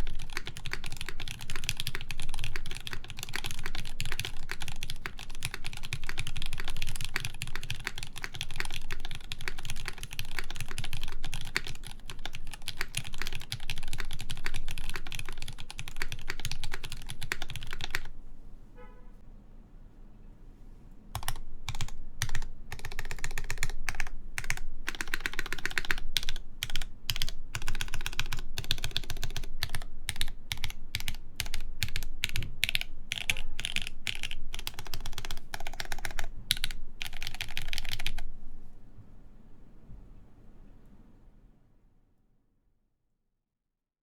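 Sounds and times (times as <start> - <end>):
mechanical keyboard typing: 0.0 - 18.1, 21.1 - 38.3.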